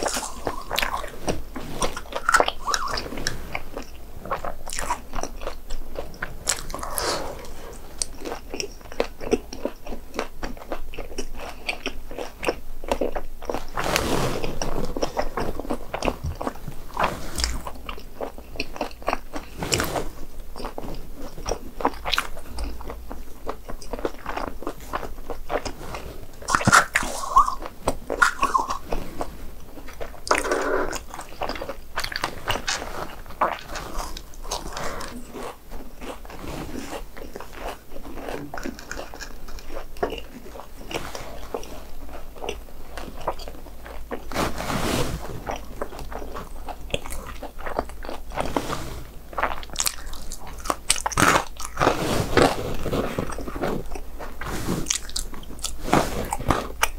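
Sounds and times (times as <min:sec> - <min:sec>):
crunchy bites and chewing: 0:00.0 - 0:44.6, 0:45.4 - 0:56.9.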